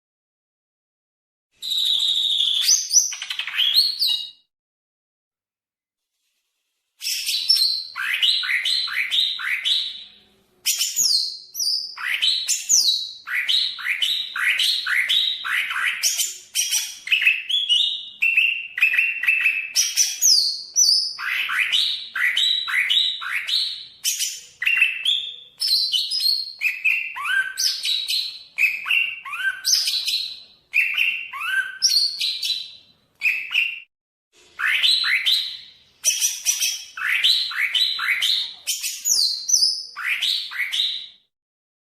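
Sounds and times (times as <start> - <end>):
bird singing whistled notes: 1.6 - 4.5, 7.0 - 33.9, 34.6 - 41.3.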